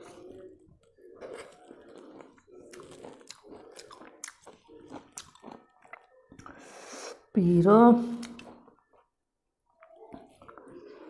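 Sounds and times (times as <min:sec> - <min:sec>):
person chewing food: 0:00.0 - 0:07.2, 0:08.2 - 0:11.0.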